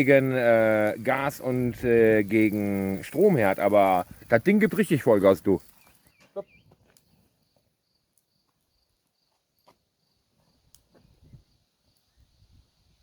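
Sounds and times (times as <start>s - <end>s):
faint cricket chirp: 0.0s - 13.0s.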